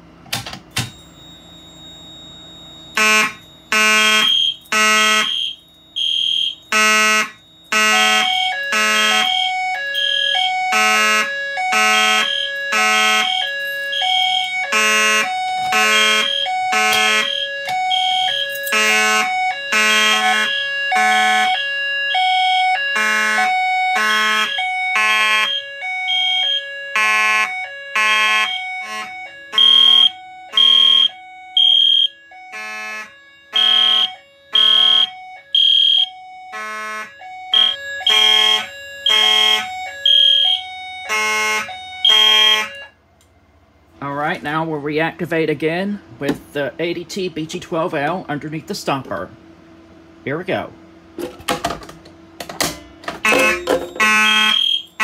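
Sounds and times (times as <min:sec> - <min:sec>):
fire alarm horns beeping: 0:00.0 - 0:43.0, 0:52.6 - 0:55.0.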